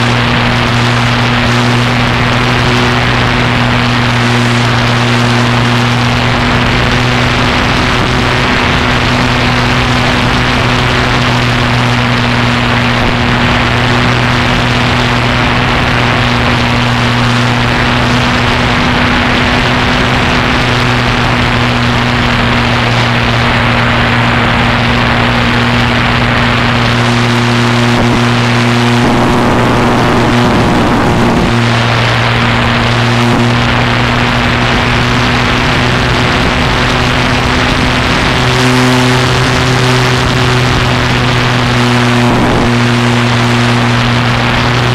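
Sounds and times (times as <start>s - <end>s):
propeller aircraft engine: 0.0s - 44.9s
rushing airflow: 0.0s - 44.9s.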